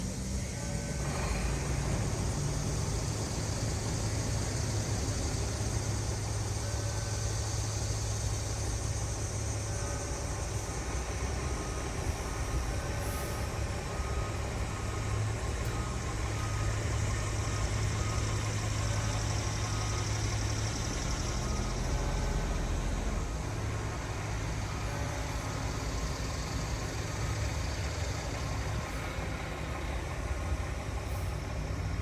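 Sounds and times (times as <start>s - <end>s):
outdoor background noise: 0.0s - 32.0s
vehicle engine idling: 0.0s - 32.0s.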